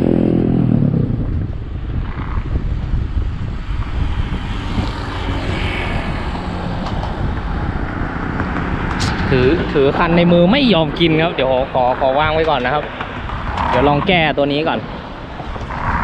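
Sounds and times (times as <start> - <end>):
low traffic rumble: 0.0 - 16.0
motor vehicle passing: 0.0 - 16.0.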